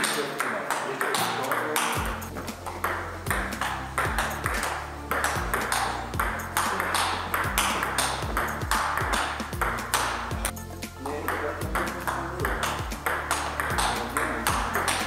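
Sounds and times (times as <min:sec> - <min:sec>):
table tennis ball clicks: 0:00.0 - 0:10.4, 0:11.1 - 0:15.0
background music with steady beat: 0:00.0 - 0:15.0.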